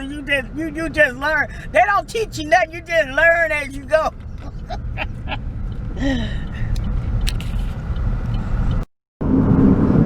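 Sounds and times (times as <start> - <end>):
car driving rumble inside cabin: 0.0 - 10.0.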